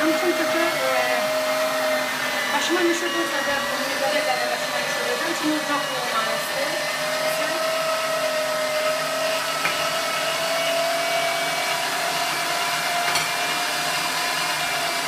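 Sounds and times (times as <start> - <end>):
electric meat grinder whining: 0.0 - 15.0.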